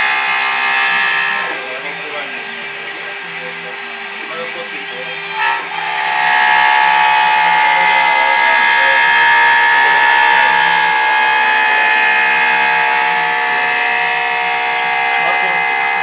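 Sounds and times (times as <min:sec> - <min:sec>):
machine motors whining: 0:00.0 - 0:16.0.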